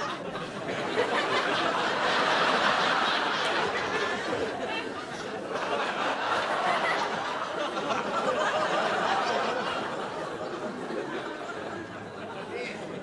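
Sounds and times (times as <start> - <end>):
audience laughing: 0.0 - 13.0.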